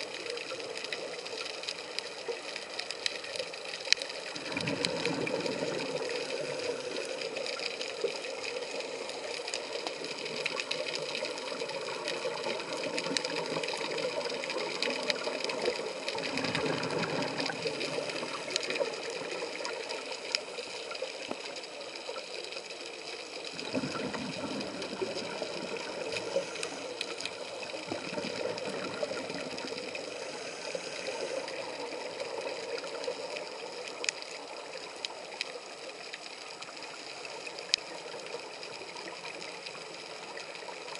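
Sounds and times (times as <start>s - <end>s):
water rushing swells: 0.0s - 40.9s.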